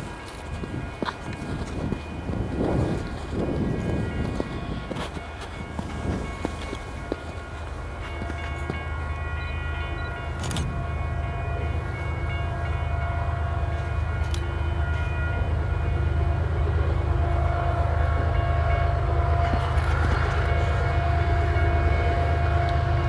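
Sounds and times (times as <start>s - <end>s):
locomotive rumble: 0.0s - 23.0s.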